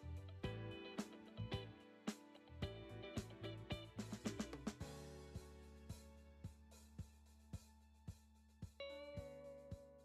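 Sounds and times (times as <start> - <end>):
background music with plucked notes: 0.0 - 10.0.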